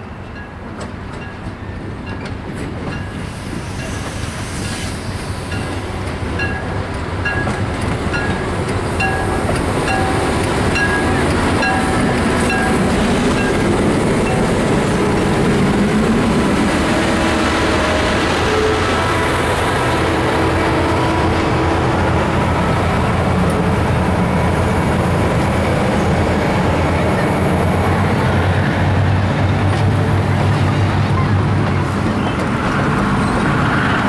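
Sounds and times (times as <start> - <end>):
train wheels on rails: 0.0 - 34.0.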